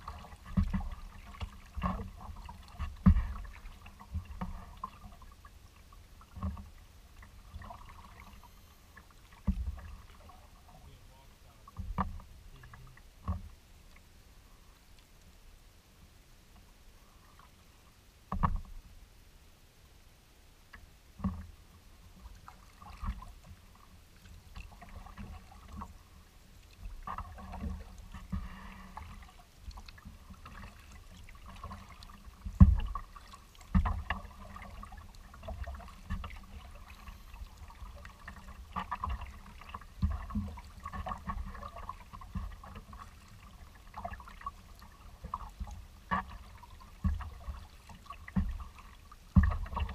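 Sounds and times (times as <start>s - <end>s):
paddle splashing in water: 0.0s - 13.5s, 21.2s - 49.9s
water lapping against hull: 0.0s - 15.4s, 16.5s - 18.9s, 20.7s - 49.9s.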